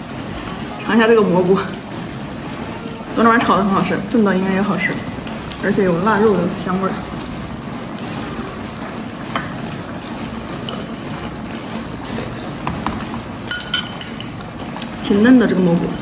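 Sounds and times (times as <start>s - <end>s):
stew sizzling in hot pot: 0.0s - 16.0s.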